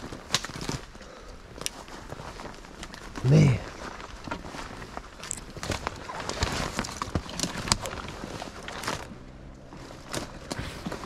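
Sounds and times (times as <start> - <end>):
twigs cracking underfoot: 0.0 - 11.0.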